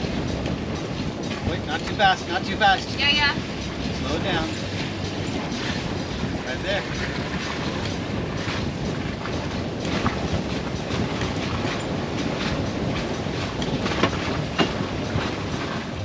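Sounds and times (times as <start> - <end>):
water rushing past boat: 0.0 - 16.0
wind rushing: 0.0 - 16.0.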